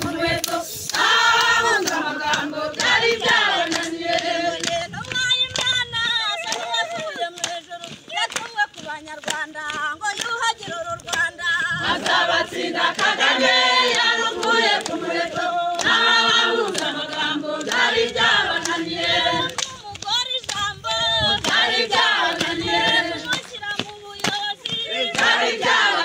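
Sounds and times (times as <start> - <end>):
crowd singing: 0.0 - 20.0, 20.6 - 26.0.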